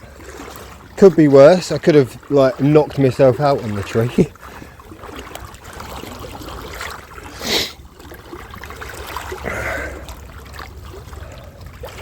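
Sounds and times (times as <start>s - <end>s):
water sloshing around wading person: 0.0s - 12.0s.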